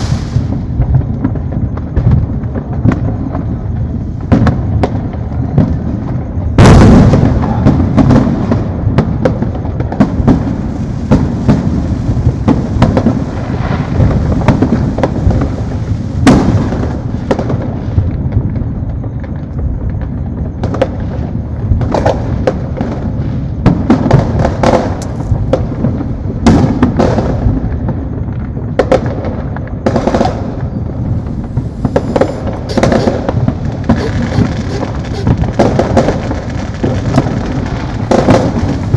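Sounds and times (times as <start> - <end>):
fireworks pops and cracks: 0.0 - 34.4, 35.2 - 38.9
fireworks booming: 0.0 - 38.9.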